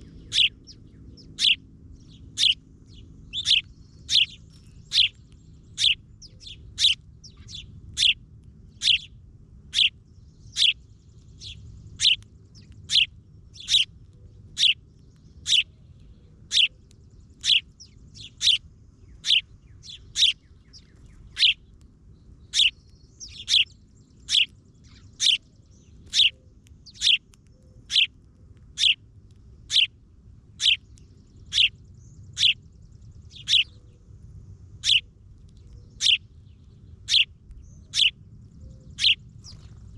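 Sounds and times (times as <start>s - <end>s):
bird chirping: 0.0s - 29.0s, 29.6s - 29.9s, 30.5s - 34.0s, 34.8s - 39.9s.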